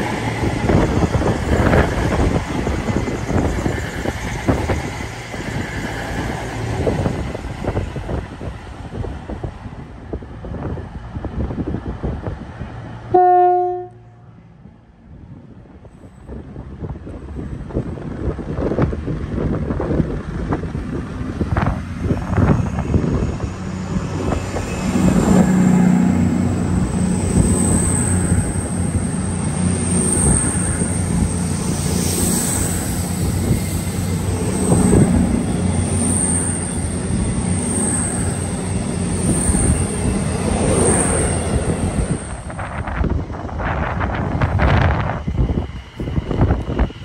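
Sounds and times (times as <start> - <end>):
train rumble: 0.0 - 47.0.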